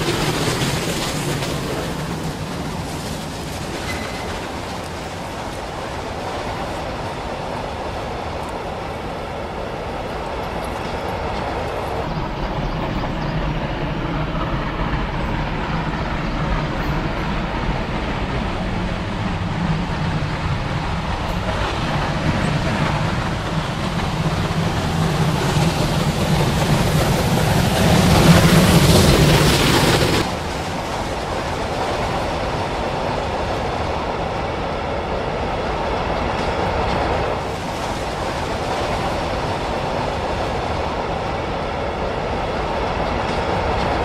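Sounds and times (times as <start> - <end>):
steam locomotive exhaust and running gear: 0.0 - 44.0.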